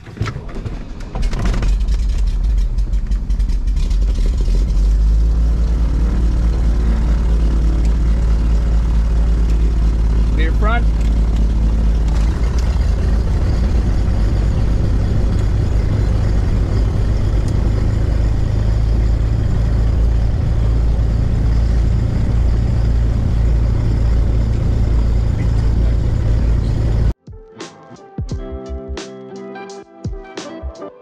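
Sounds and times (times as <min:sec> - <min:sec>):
aircraft engines droning in cabin: 0:00.1 - 0:27.2.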